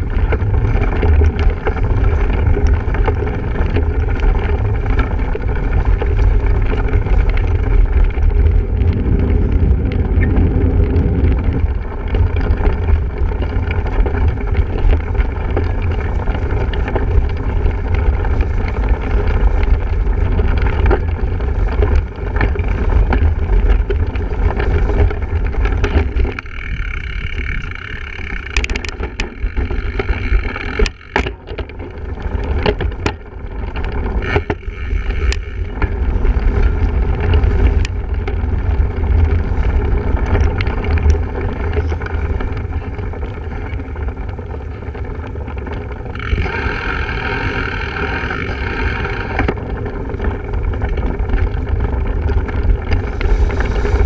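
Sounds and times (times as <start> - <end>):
bike rattling: 0.0 - 54.0
wind buffeting microphone: 0.0 - 54.0.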